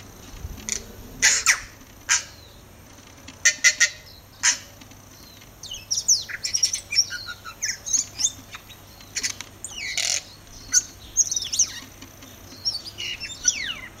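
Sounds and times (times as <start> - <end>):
bird singing: 0.7 - 2.7, 3.6 - 14.0.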